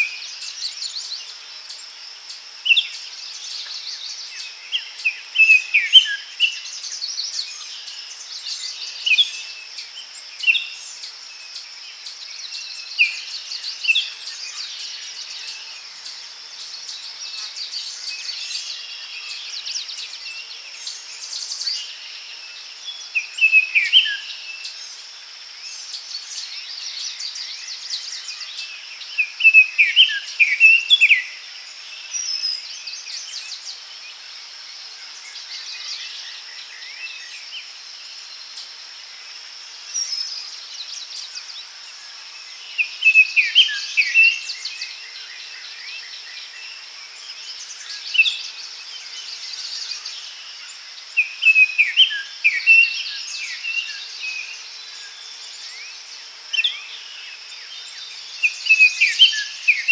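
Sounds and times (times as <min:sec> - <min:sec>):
high insect drone: 0:00.0 - 0:59.9
songbirds chirping: 0:00.0 - 0:59.9.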